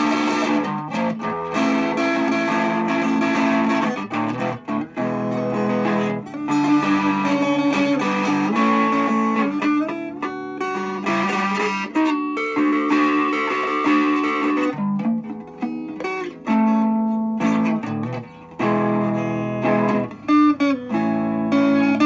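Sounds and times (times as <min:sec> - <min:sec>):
guitar plucking notes and chords: 0:00.0 - 0:22.0.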